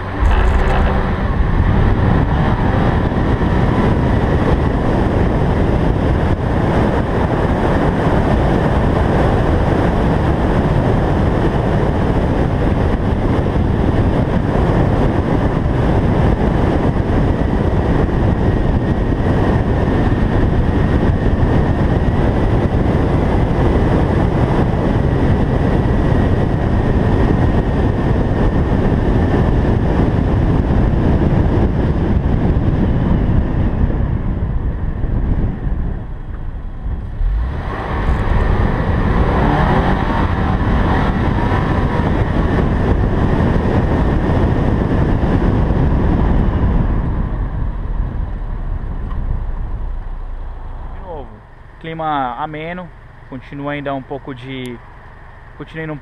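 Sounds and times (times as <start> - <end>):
car engine: 0.0 - 56.0
wind and road noise: 0.0 - 56.0.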